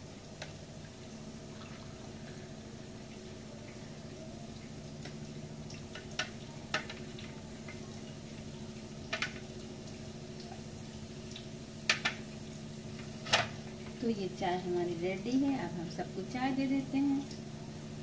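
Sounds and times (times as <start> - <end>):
steady low hum: 0.0 - 18.0
tea trickling through a strainer: 0.1 - 18.0.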